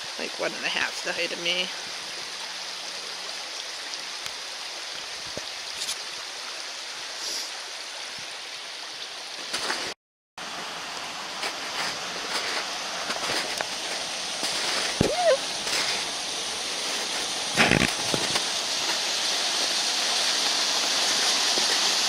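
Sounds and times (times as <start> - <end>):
brook water rushing: 0.0 - 22.0.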